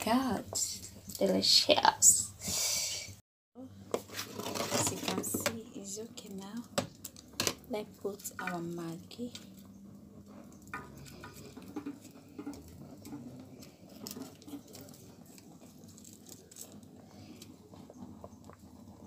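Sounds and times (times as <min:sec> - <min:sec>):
wood fire crackling: 0:00.0 - 0:03.0, 0:03.7 - 0:19.0.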